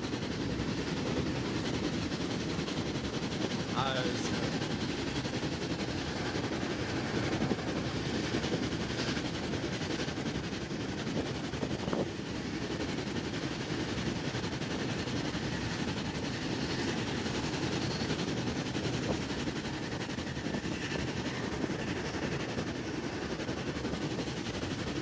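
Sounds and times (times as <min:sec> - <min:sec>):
passenger coach running noise: 0:00.0 - 0:25.0
wheels rumbling on rails: 0:00.0 - 0:25.0.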